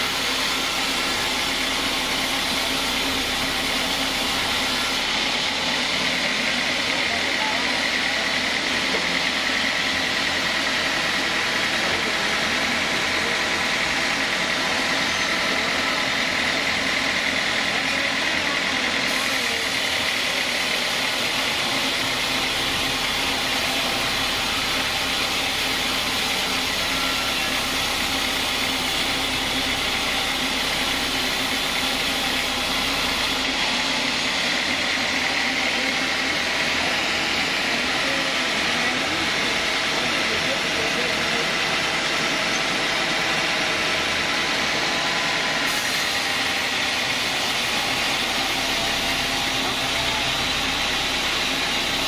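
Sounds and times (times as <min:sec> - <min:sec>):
band saw cutting wood: 0:00.0 - 0:52.0.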